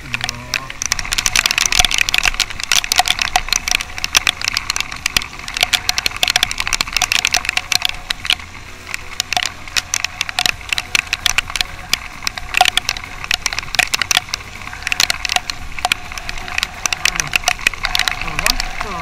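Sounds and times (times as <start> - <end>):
low motorcycle rumble: 0.0 - 19.0
wind crackling on microphone: 0.0 - 19.0.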